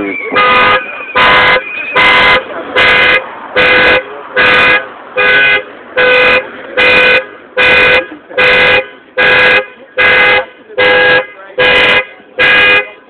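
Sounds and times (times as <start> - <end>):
car alarm honking: 0.0 - 13.0.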